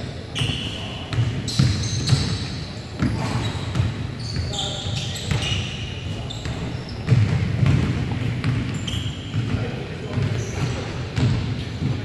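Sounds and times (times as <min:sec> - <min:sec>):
sneaker squeaks: 0:00.0 - 0:12.0
voices echoing in a hall: 0:00.0 - 0:12.0.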